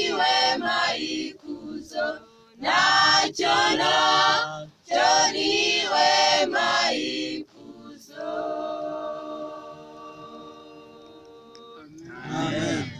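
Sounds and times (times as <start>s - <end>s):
mixed choir singing a cappella: 0.0s - 12.9s.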